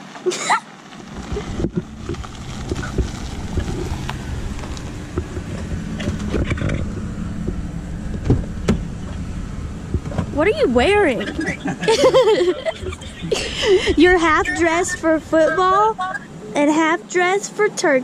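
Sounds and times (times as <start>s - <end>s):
truck engine idling: 1.0s - 17.0s.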